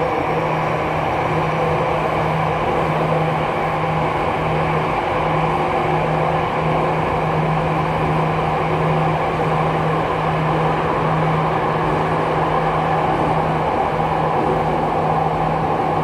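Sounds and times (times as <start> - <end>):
constant low hum: 0.0 - 16.0
train rumble: 0.0 - 16.0.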